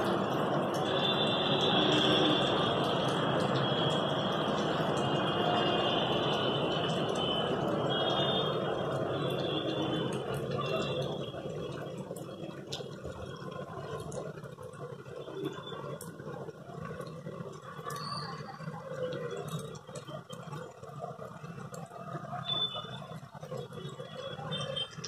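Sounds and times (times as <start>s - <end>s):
faint drips: 0.0s - 25.0s
rain patter: 0.0s - 25.0s.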